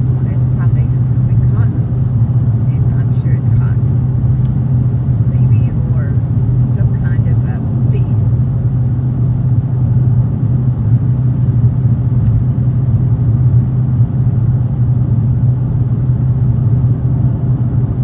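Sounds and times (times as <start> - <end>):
car engine exhaust drone: 0.0 - 18.0.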